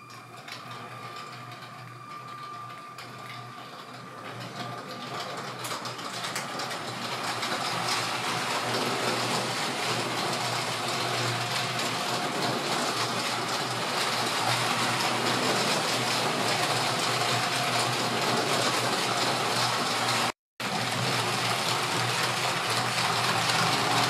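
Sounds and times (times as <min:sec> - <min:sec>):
wheels rattling over plastic track: 0:00.0 - 0:24.0.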